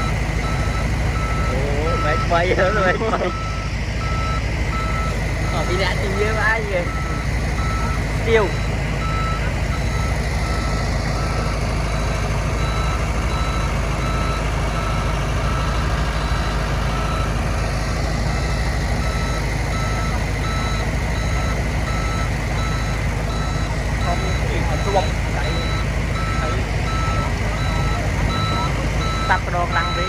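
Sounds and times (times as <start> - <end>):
heavy diesel machinery running: 0.0 - 30.0
reversing alarm beeping: 0.0 - 30.0.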